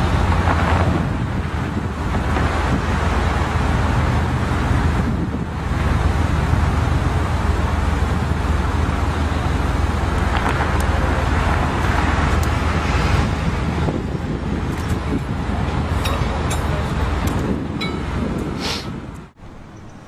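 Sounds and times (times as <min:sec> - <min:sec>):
road traffic passing: 0:00.0 - 0:20.0
wind on microphone: 0:00.0 - 0:20.0.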